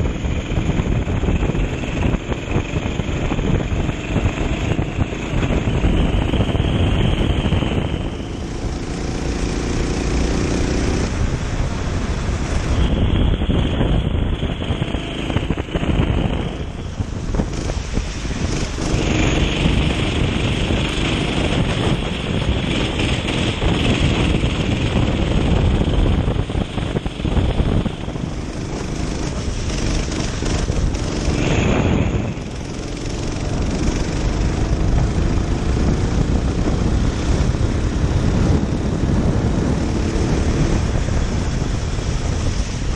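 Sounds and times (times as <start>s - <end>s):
kart engine revving: 0.0s - 11.2s, 14.3s - 41.7s
wind noise on microphone: 0.0s - 42.9s.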